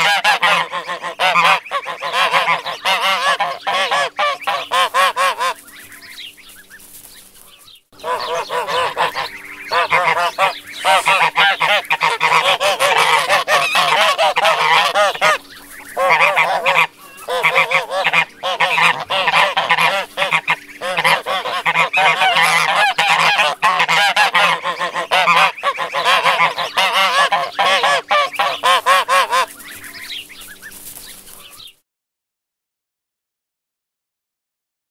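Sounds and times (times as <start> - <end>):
geese honking: 0.0 - 31.7.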